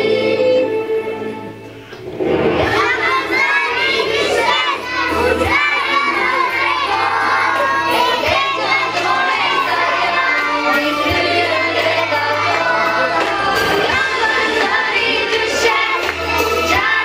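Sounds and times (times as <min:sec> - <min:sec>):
children singing and shouting: 0:00.0 - 0:17.0.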